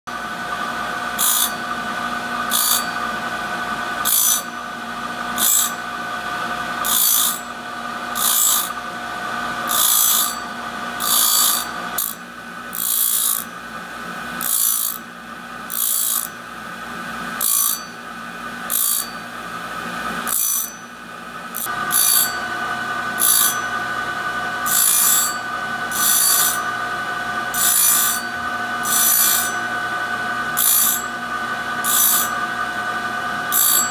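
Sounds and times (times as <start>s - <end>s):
machine humming: 0.1s - 33.9s
mid-pitched machine whine: 0.1s - 33.9s
grinding wheel rasping on metal: 0.5s - 13.5s, 14.4s - 15.0s, 15.7s - 16.4s, 17.4s - 18.0s, 18.7s - 19.3s, 20.2s - 20.9s, 21.5s - 33.9s.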